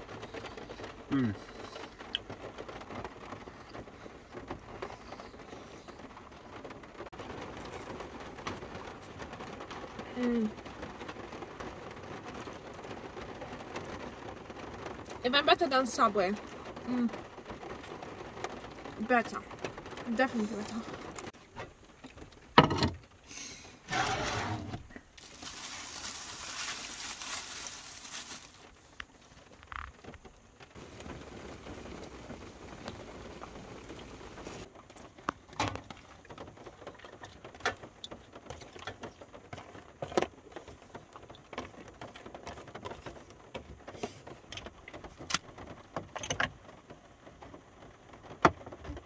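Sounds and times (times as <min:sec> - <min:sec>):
rain on a roof: 0:00.0 - 0:49.0.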